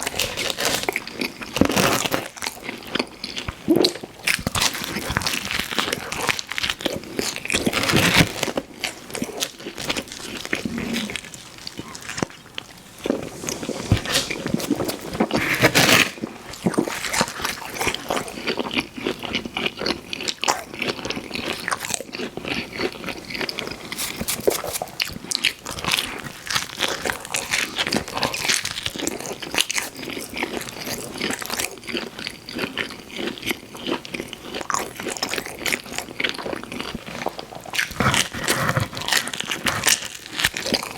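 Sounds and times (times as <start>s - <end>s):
chewing and crunching food: 0.0s - 40.9s.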